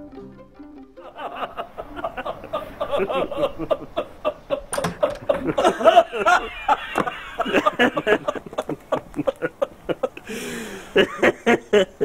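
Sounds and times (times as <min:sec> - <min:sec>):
people talking and laughing: 0:01.0 - 0:12.0.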